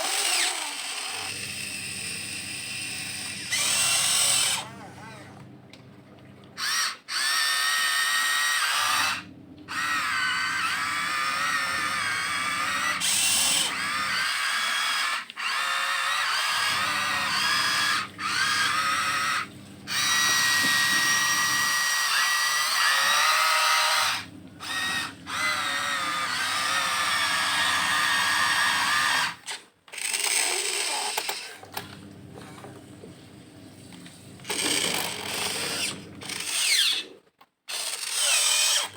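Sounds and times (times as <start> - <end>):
toy excavator motors whining: 0.0 - 5.3, 6.6 - 32.6, 34.4 - 38.9.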